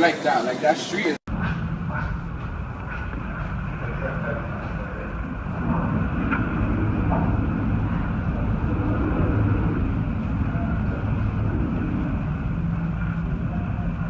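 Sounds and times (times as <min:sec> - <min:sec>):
strong wind blowing: 0:01.3 - 0:14.0
wind buffeting microphone: 0:01.3 - 0:14.0.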